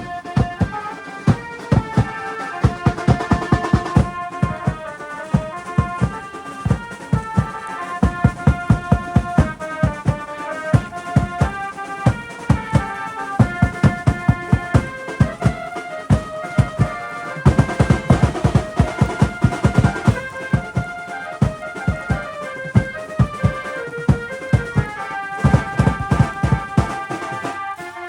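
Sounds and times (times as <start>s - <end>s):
fast drum beat: 0.0s - 27.6s.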